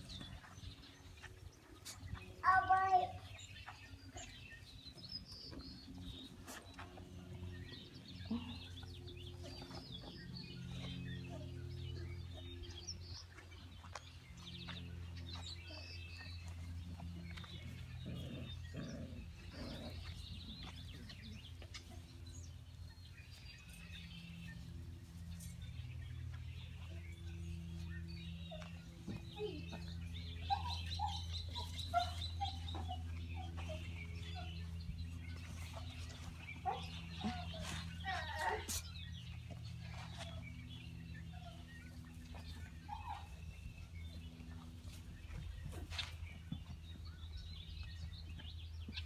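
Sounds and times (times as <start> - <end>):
birds chirping: 0.0 - 49.0
steady low hum: 3.0 - 49.0.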